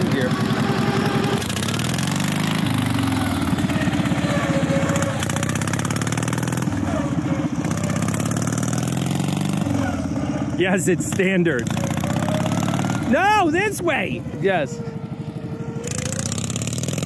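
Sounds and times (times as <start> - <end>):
lawn mower engine revving: 0.0 - 17.0.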